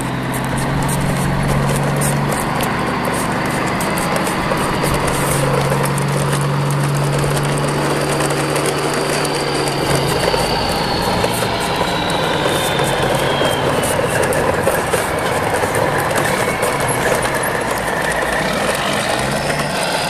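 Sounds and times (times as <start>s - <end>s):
steady low hum: 0.0s - 17.8s
toy truck wheels rattling over bricks: 0.0s - 20.0s.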